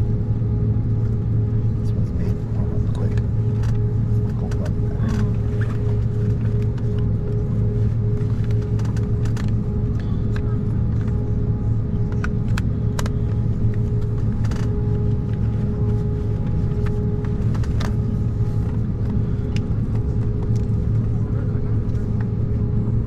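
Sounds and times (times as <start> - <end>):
airliner cabin drone: 0.0 - 23.0.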